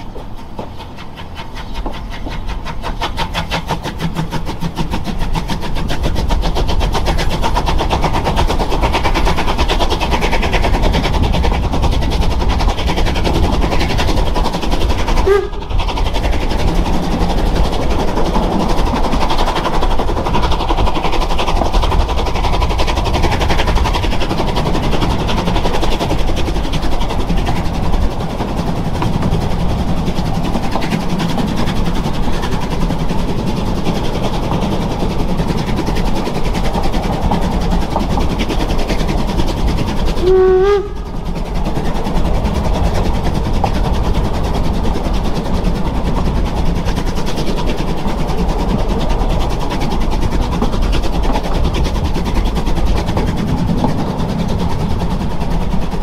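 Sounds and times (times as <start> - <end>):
train rumbling on tracks: 0.0 - 56.0.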